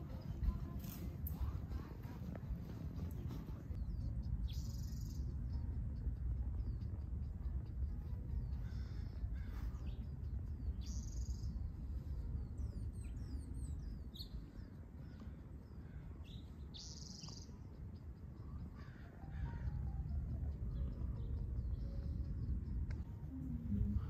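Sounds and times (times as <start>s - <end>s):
birds chirping and calling: 0.0s - 24.0s
steady low rumble: 0.0s - 24.0s.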